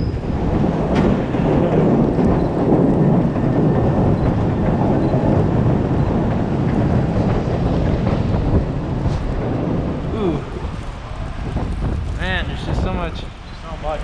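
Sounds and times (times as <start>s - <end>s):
city noise rumble: 0.0s - 14.0s.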